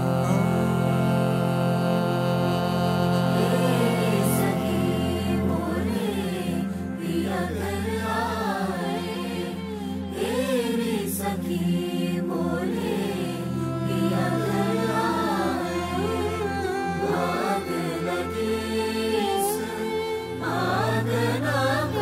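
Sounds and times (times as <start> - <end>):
male choir singing: 0.0 - 22.0.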